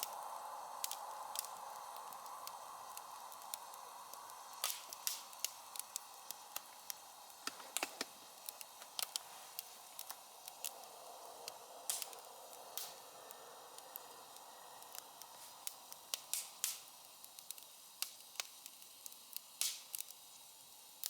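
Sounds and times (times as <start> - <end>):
steady fire hiss: 0.0 - 21.0
wood fire crackling and popping: 0.0 - 21.0.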